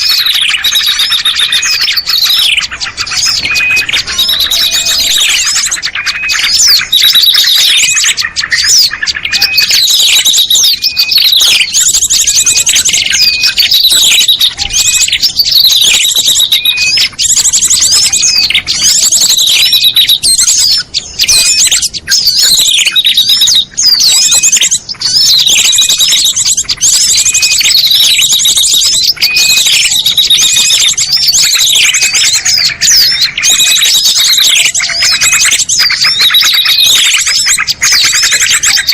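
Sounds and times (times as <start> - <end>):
recorded songbird calls: 0.0 - 38.9.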